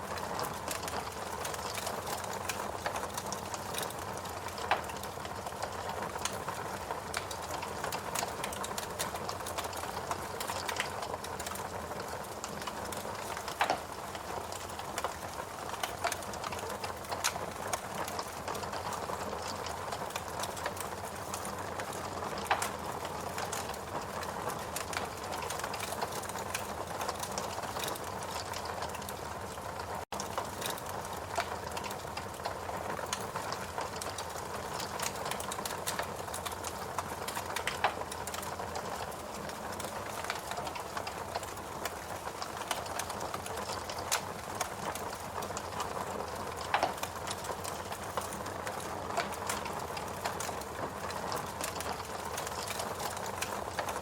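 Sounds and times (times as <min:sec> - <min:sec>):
fireplace crackling: 0:00.0 - 0:54.0.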